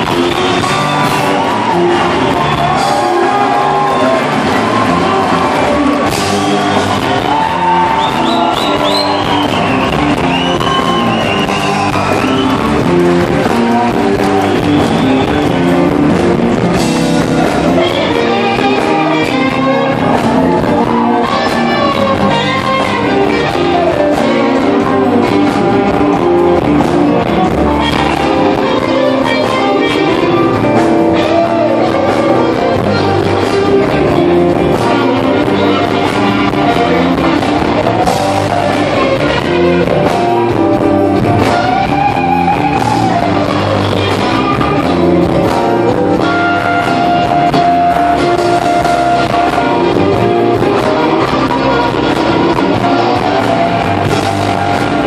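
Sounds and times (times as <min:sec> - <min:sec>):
live electric blues band: 0:00.0 - 0:55.0.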